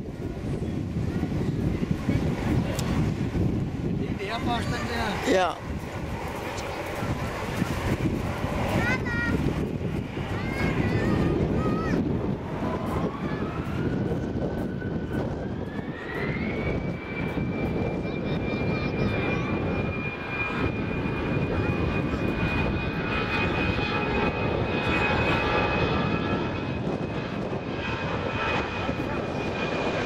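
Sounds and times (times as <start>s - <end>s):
jet engines spooling up whine: 0.0s - 30.0s.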